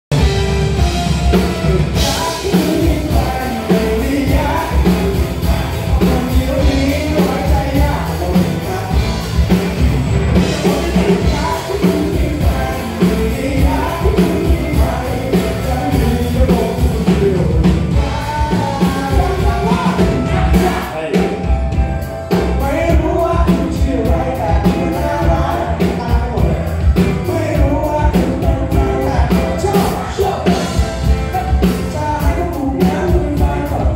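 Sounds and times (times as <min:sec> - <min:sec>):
drums and cymbals: 0:00.1 - 0:33.9
live rock band playing: 0:00.1 - 0:33.9
male lead vocals: 0:00.1 - 0:33.9.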